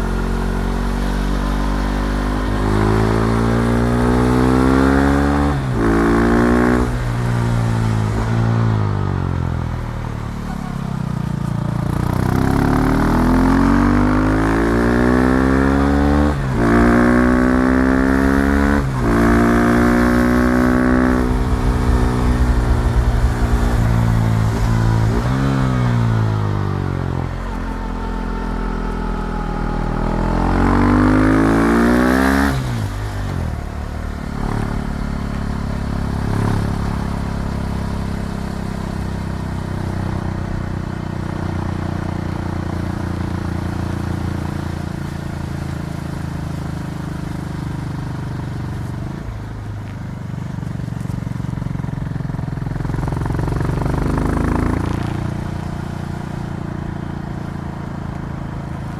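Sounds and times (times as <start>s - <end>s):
motorcycle engine accelerating: 0.0s - 49.0s, 50.8s - 58.9s.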